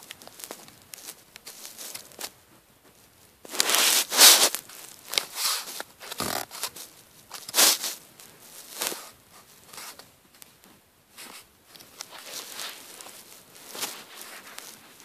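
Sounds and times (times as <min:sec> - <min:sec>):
fabric rustling and scraping: 0:00.0 - 0:15.0.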